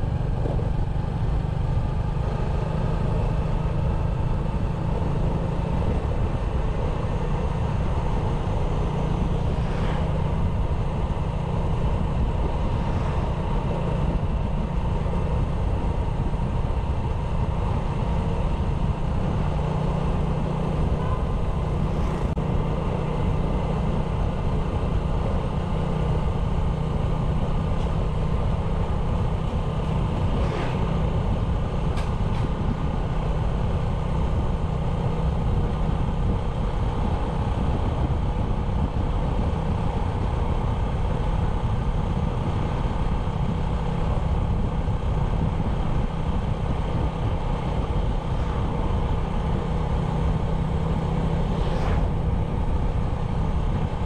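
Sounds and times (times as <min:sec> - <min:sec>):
motorbike engine cruising: 0:00.0 - 0:54.0.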